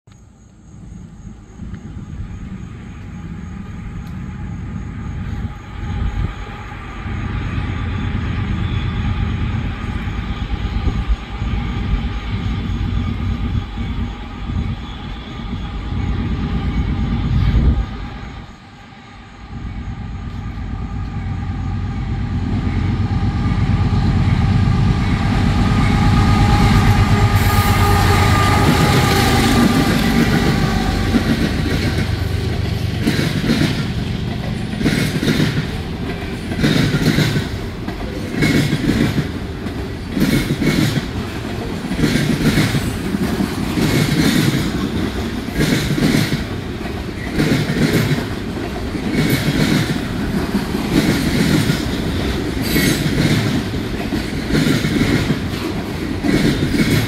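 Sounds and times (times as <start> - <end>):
diesel locomotives rumbling: 0.5 - 57.0.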